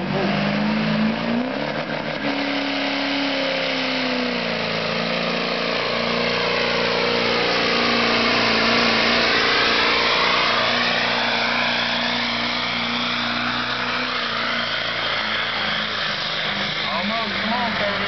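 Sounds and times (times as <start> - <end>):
diesel truck engine at high revs: 0.0 - 18.0.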